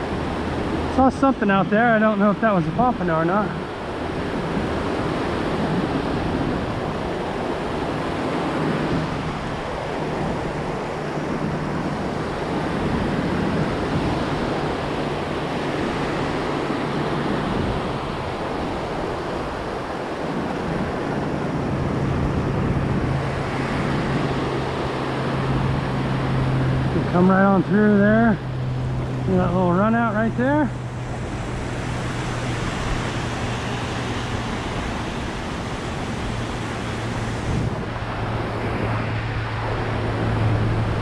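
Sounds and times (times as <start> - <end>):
ocean surf breaking: 0.0 - 41.0.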